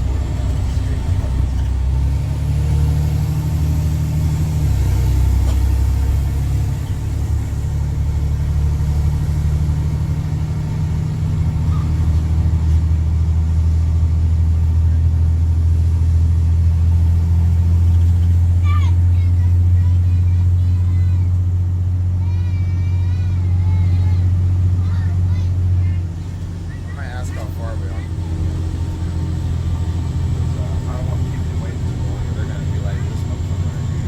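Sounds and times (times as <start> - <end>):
deep diesel exhaust drone: 0.0 - 34.0.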